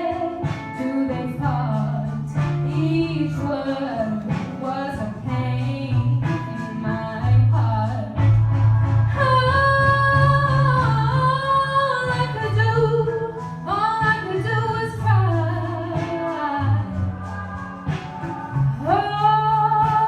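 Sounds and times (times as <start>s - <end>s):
woman singing: 0.0s - 8.5s, 9.1s - 20.0s
instrumental accompaniment: 0.0s - 20.0s.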